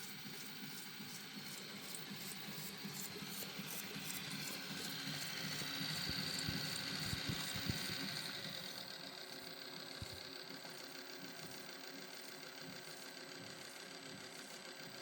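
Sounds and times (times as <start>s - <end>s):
drill press motor hum with whine: 0.0s - 15.0s.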